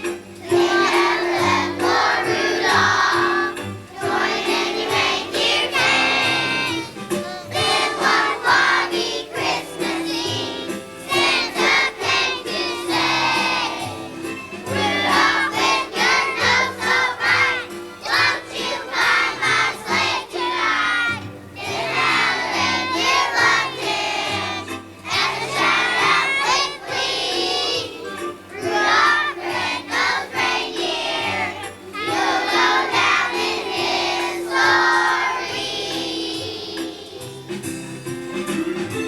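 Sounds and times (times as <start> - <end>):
children's choir singing: 0.0 - 39.0
musical accompaniment: 0.0 - 39.0.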